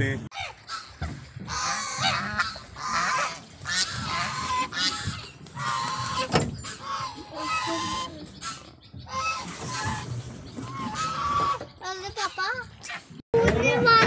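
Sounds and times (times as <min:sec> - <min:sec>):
geese honking: 0:00.3 - 0:11.8.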